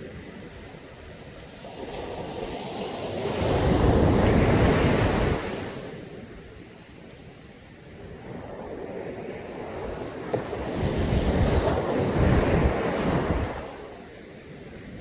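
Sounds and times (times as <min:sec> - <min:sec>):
waves breaking on beach: 0:00.0 - 0:06.7, 0:08.0 - 0:15.0.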